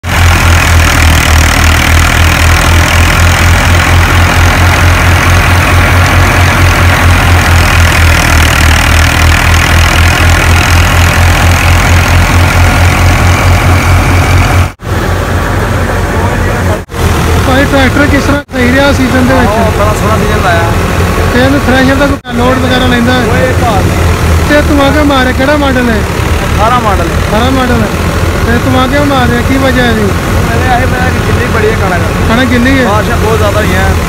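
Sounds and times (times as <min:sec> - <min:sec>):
thresher noise: 0:00.0 - 0:34.0
tractor diesel engine running: 0:00.0 - 0:34.0.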